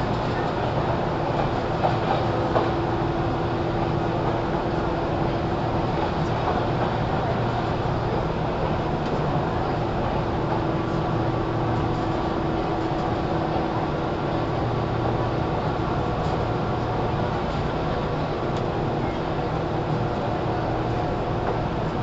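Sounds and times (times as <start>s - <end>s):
train motor and wheels on rails: 0.0s - 22.0s.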